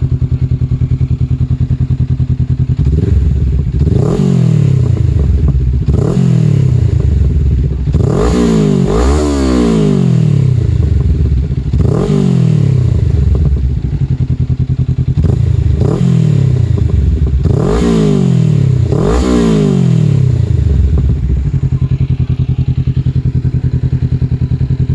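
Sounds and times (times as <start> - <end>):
motorcycle engine idling: 0.0 - 24.9
motorcycle engine revving: 0.0 - 24.9.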